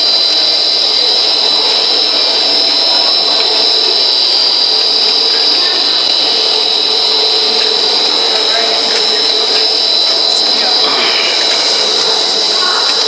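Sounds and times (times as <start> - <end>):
continuous high whine: 0.0 - 13.0
production line machinery running: 0.0 - 13.0.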